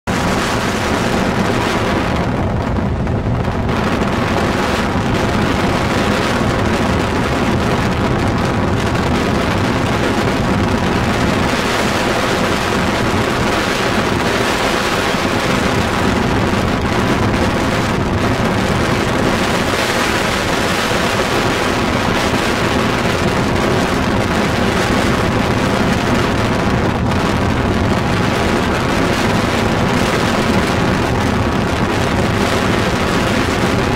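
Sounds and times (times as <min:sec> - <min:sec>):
vehicle road noise: 0:00.0 - 0:33.9
wind buffeting microphone: 0:00.1 - 0:33.9.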